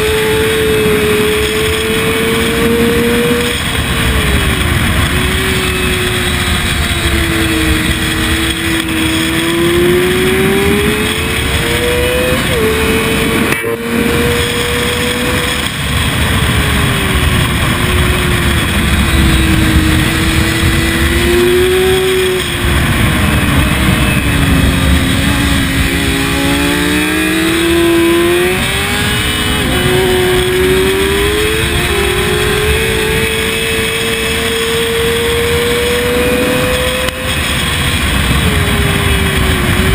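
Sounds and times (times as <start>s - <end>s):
motorcycle engine accelerating: 0.0s - 39.9s
wind rush over microphone: 0.0s - 39.9s.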